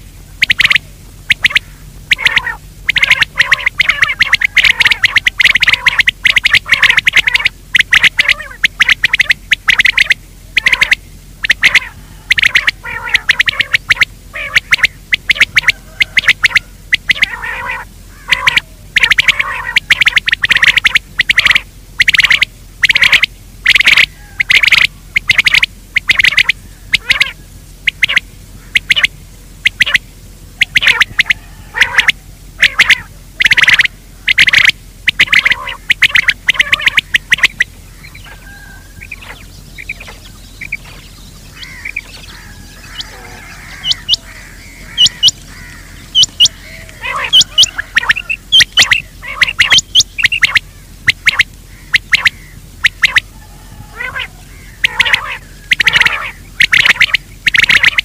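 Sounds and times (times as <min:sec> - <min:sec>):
recorded gamebird calls: 0:00.0 - 0:58.0.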